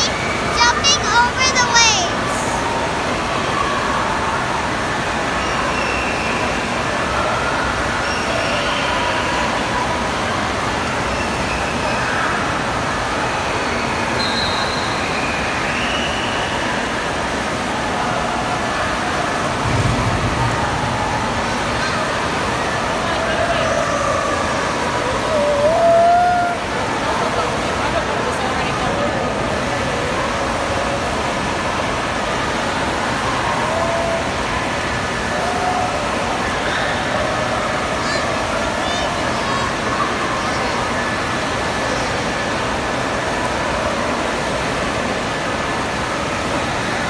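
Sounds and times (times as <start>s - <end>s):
faint children's voices: 0.0s - 14.2s, 17.8s - 32.2s, 32.8s - 44.5s
waves breaking in pool: 0.0s - 47.0s.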